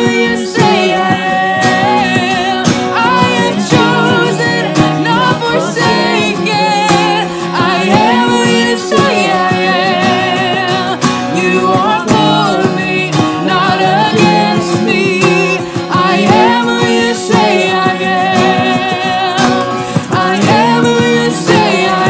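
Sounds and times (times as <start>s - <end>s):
electric guitar: 0.0s - 22.0s
people singing together: 0.0s - 22.0s
strummed acoustic guitar: 0.0s - 22.0s.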